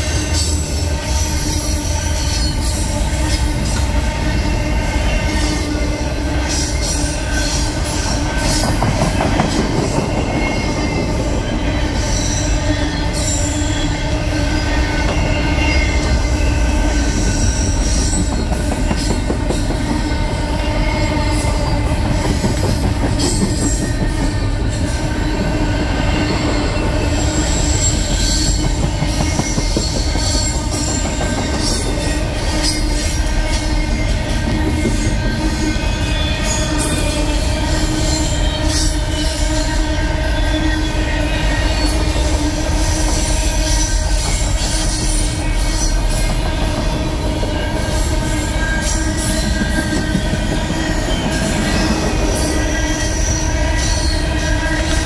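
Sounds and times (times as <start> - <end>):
freight train wheels clattering: 0.0 - 55.0
high wheel squeal: 0.0 - 55.0.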